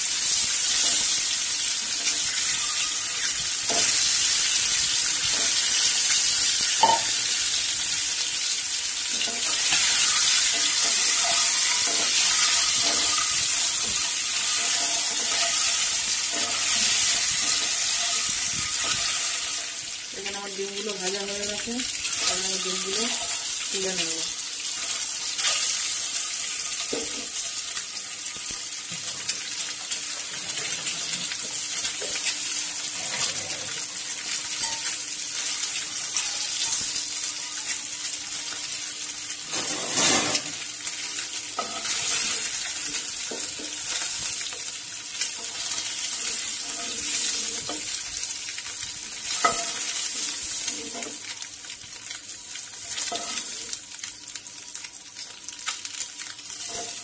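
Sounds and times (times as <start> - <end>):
eggs sizzling in oil: 0.0 - 57.0.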